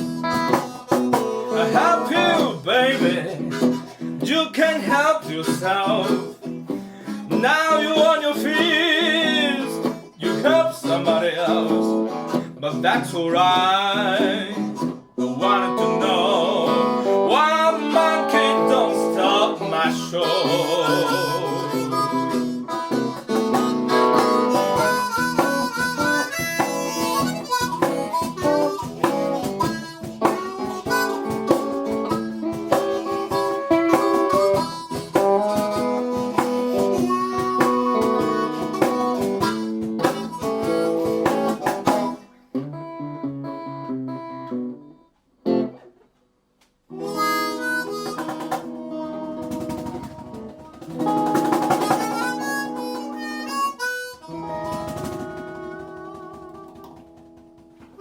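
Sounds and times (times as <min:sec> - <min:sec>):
blues harmonica playing: 0:00.0 - 0:45.8, 0:46.9 - 0:58.0
acoustic guitar: 0:00.0 - 0:46.2, 0:46.8 - 0:58.0.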